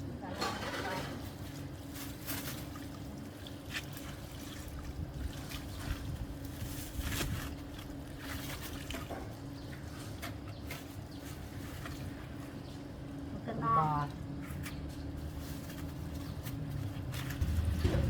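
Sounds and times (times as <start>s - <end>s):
water trickling and splashing: 1.0s - 18.0s.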